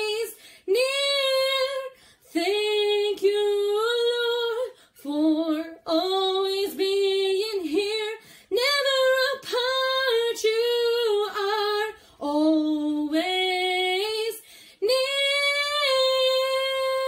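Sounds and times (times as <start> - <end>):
woman singing unaccompanied: 0.0 - 17.0.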